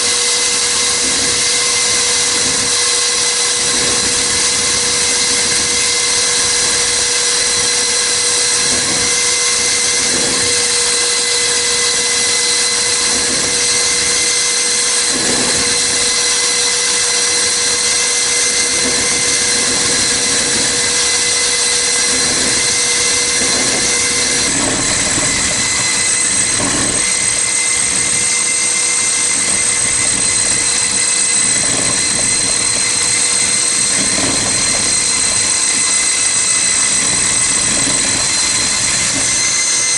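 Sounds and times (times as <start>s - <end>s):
continuous grinding hiss: 0.0s - 39.9s
core drill motor whine: 0.0s - 39.9s.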